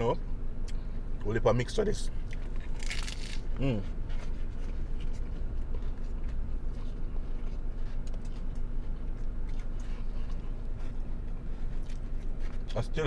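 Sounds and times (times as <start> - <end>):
low car cabin hum: 0.0 - 13.0
chewing crunchy taco shell: 2.1 - 13.0.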